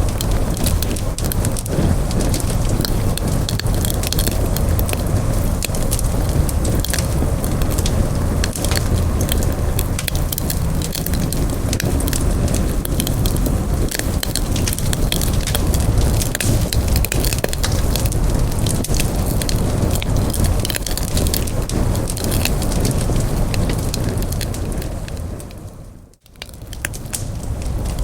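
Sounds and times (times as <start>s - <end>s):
burning wood crackling and popping: 0.0s - 28.0s
flames rushing: 0.0s - 28.0s.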